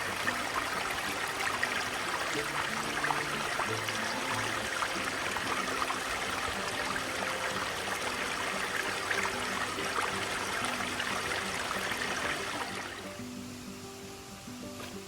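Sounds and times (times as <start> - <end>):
stream water rushing: 0.0 - 13.2
faint music of low notes: 0.0 - 15.0.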